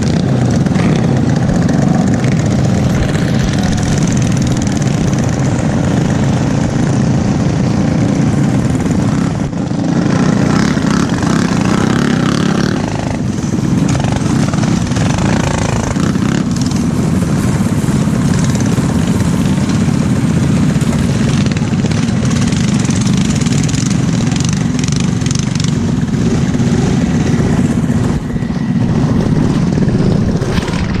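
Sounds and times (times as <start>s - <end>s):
minibike engines idling: 0.0s - 31.0s.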